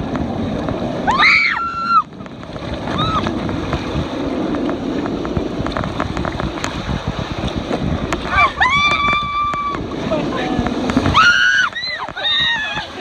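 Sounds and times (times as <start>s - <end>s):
rushing water: 0.0s - 13.0s
wind noise on microphone: 0.0s - 13.0s.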